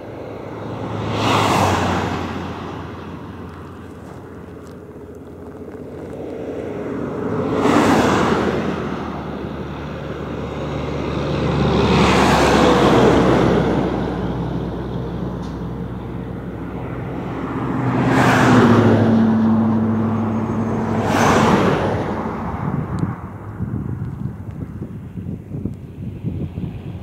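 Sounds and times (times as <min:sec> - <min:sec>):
vehicles passing by: 0:00.0 - 0:27.0.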